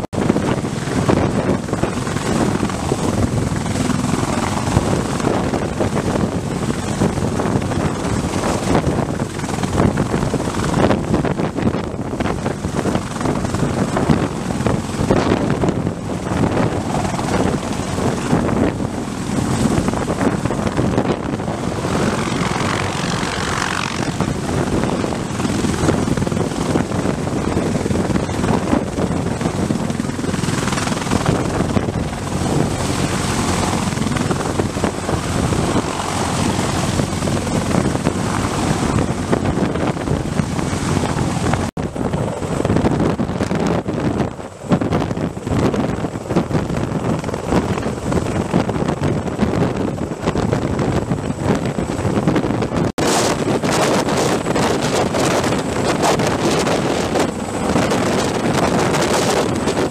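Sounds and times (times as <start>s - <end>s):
helicopter rotor and engines: 0.0s - 59.9s
wind noise on microphone: 0.0s - 59.9s.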